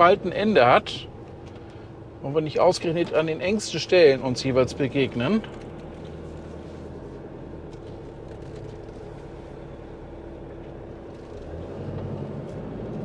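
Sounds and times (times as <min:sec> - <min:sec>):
van engine humming: 0:00.0 - 0:13.0.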